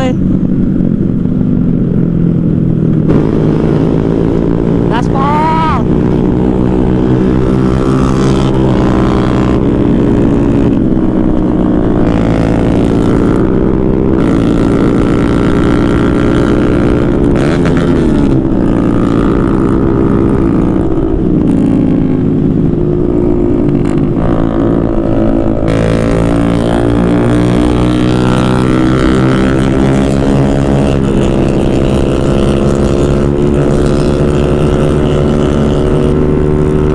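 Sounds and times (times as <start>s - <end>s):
motorcycle engine at full throttle: 0.0s - 36.9s.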